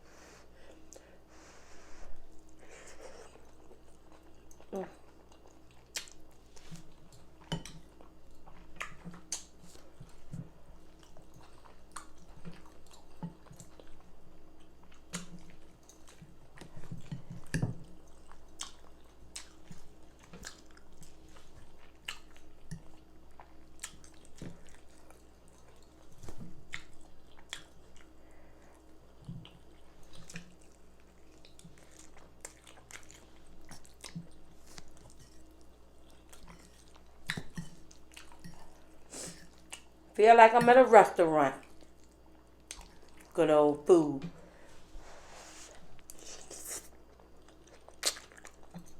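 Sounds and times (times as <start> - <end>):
chewing with wet mouth smacks: 3.3 - 40.0, 41.6 - 43.3, 46.0 - 48.9.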